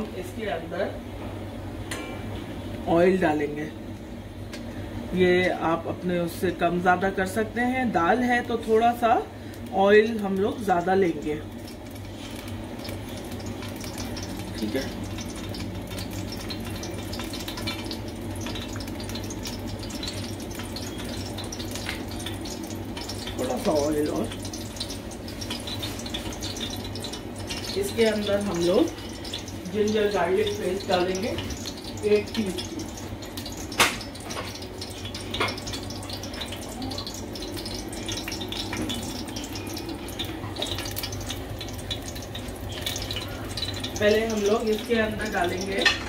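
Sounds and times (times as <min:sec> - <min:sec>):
pots crackling and bubbling: 0:00.0 - 0:46.0.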